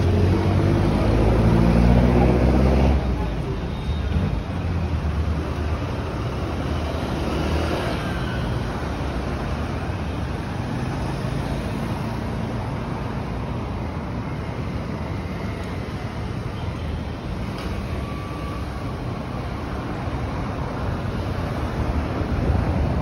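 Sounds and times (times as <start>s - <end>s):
cars and motorcycles driving: 0.0s - 23.0s.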